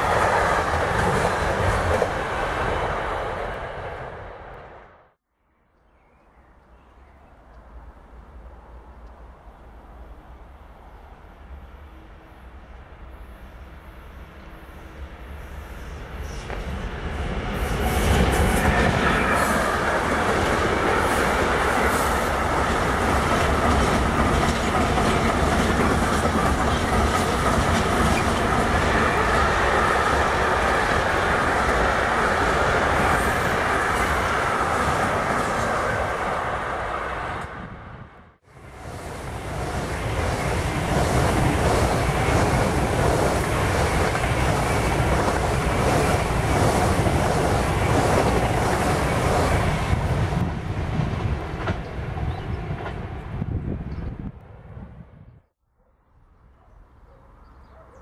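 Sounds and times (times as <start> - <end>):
train rushing past: 0.0 - 5.1, 7.7 - 55.0
freight train passing: 0.0 - 5.2, 6.9 - 55.5.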